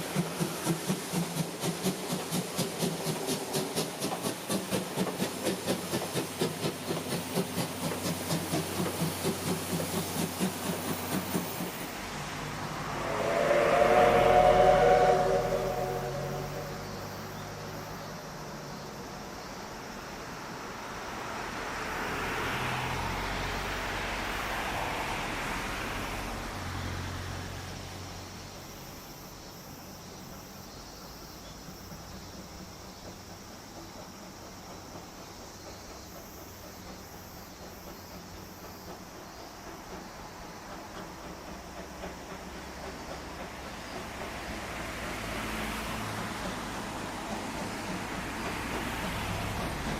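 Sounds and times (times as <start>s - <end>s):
steam hissing: 0.0s - 20.5s, 30.0s - 49.9s
steam locomotive exhaust chuffing: 0.0s - 21.8s, 22.8s - 49.9s.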